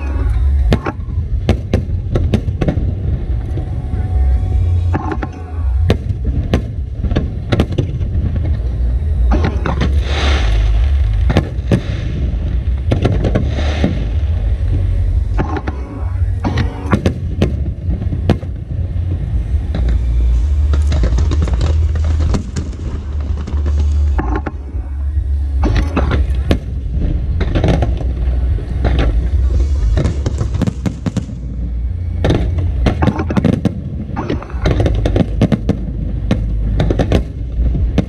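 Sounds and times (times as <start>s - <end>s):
deep rumble: 0.0s - 38.0s
fireworks bangs: 0.0s - 38.0s
fireworks crackling: 0.0s - 38.0s.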